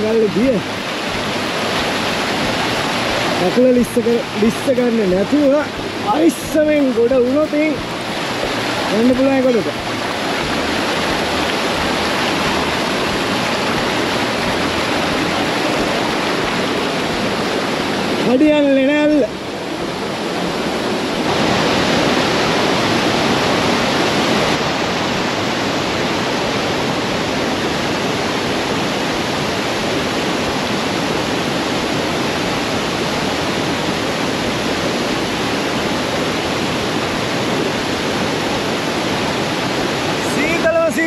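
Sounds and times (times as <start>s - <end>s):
waterfall rushing over rock: 0.0s - 41.0s.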